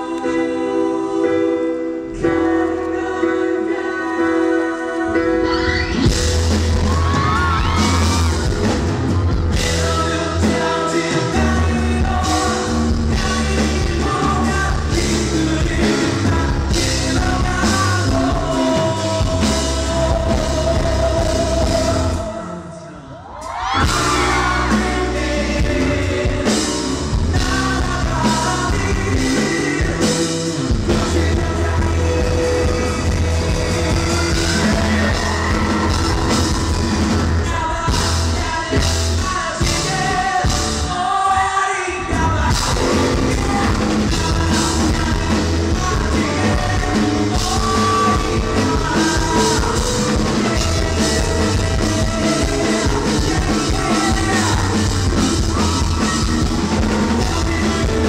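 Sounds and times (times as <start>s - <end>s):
live rock band: 0.0s - 58.0s
man singing: 0.0s - 58.0s.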